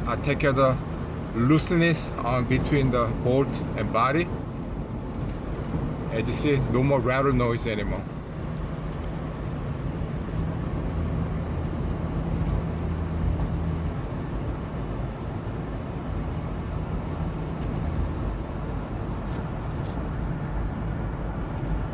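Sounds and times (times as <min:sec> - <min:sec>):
road noise: 0:00.0 - 0:21.9
van engine hum: 0:00.0 - 0:21.9.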